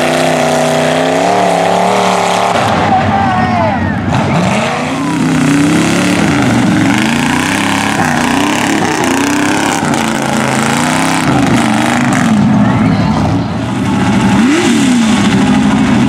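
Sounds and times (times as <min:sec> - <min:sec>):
mud tires spinning: 0:00.0 - 0:16.0
truck engines revving: 0:00.0 - 0:16.0.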